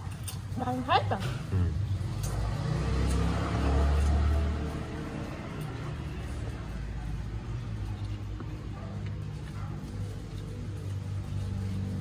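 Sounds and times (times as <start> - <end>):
vehicle engine rumble passing by: 1.3 - 12.0.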